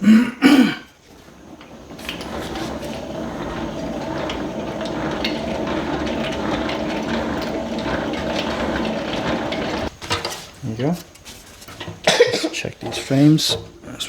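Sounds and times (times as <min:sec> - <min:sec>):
honey extractor whirring: 0:00.0 - 0:14.0.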